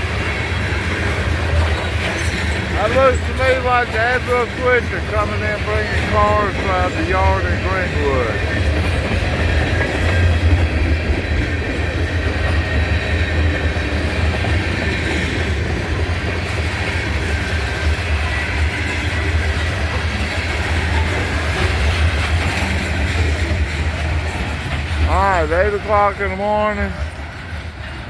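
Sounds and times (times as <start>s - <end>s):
freight cars rolling: 0.0s - 28.0s
locomotive rumbling: 0.0s - 28.0s.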